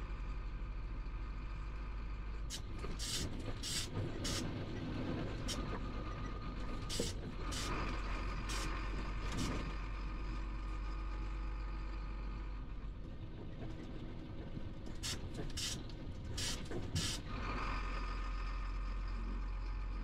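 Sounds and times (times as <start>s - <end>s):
truck diesel engine running: 0.0s - 20.0s
road noise: 1.2s - 20.0s.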